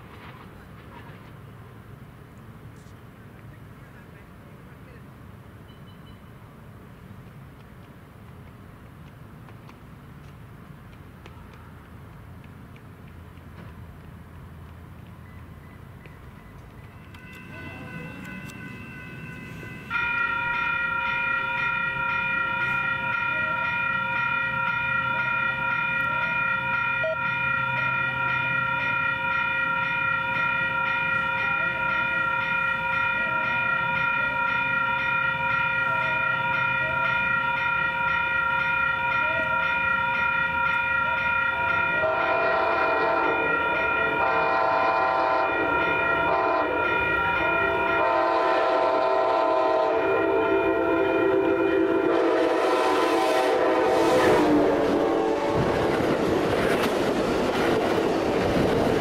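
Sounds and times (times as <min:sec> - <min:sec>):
locomotive steady tones: 0:00.0 - 0:59.0.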